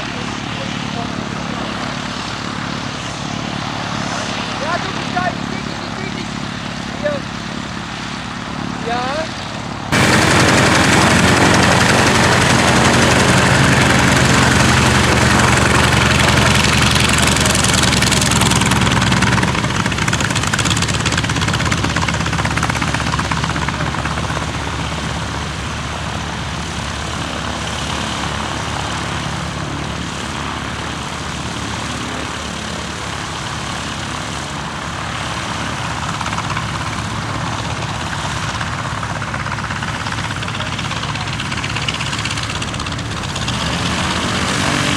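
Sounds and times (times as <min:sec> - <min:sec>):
radial aircraft engine and propeller: 0:00.0 - 0:44.9.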